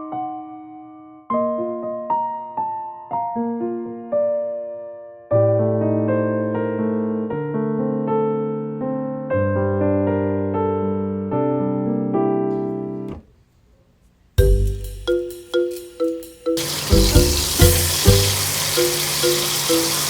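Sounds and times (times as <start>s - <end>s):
piano music with sustained chords: 0.0s - 12.9s, 16.6s - 20.0s.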